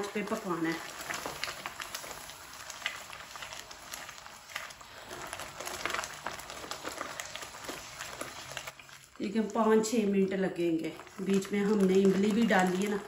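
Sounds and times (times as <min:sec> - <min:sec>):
thick sauce popping in a pan: 0:00.0 - 0:13.0.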